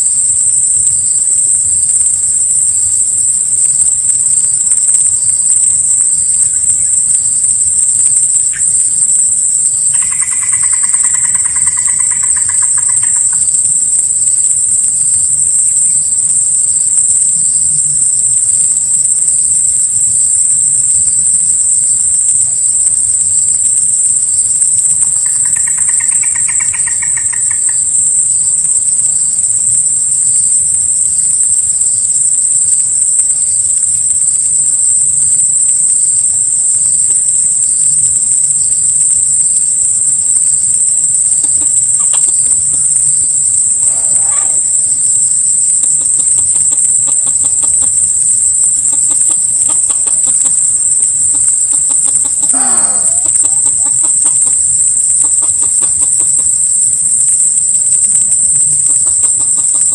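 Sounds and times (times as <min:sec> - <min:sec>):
high-pitched insect drone: 0:00.0 - 0:59.9
pulsing insect calls: 0:00.0 - 0:59.9.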